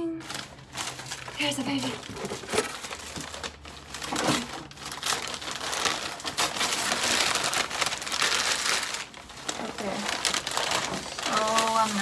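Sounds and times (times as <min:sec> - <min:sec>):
newspaper crinkling and tearing: 0:00.2 - 0:12.0.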